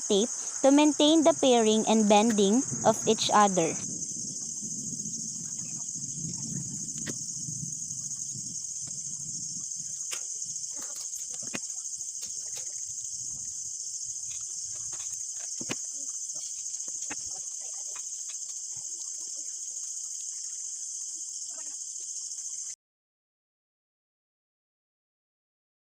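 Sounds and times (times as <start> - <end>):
insect chirring: 0.0 - 22.8.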